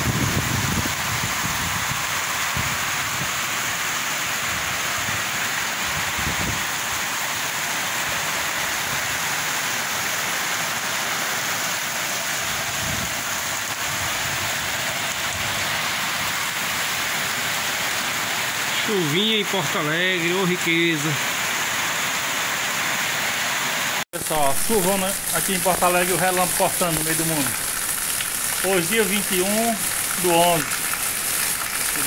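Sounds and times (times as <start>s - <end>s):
heavy rain on pavement: 0.0s - 32.0s.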